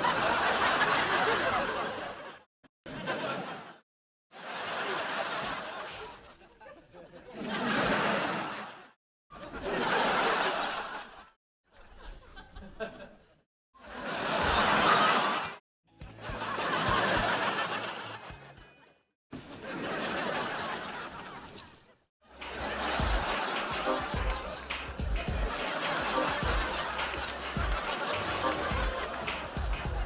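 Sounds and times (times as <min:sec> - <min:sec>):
studio audience laughter: 0:00.0 - 0:03.8, 0:04.4 - 0:15.6, 0:16.2 - 0:18.9, 0:19.6 - 0:30.0.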